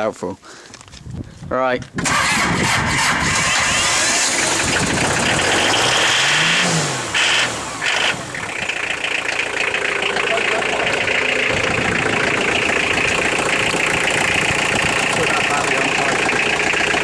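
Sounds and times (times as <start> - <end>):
diesel engine running: 2.0 - 17.0.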